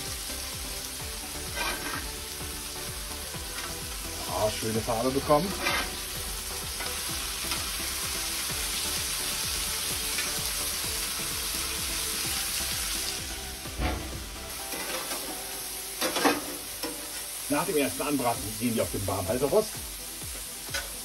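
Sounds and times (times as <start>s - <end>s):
patties sizzling on a grill: 0.0s - 21.0s.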